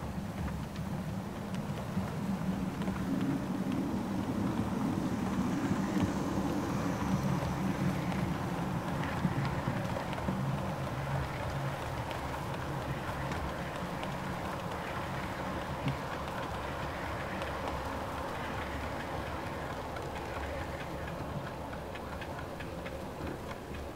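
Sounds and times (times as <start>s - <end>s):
model train rumble and motor hum: 0.0s - 23.9s
light wheel ticks on track: 0.2s - 23.9s.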